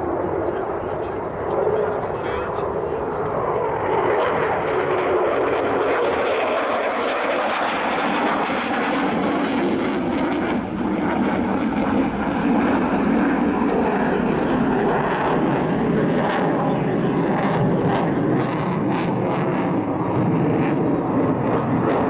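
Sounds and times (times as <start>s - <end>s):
jet engines roaring overhead: 0.0s - 22.0s.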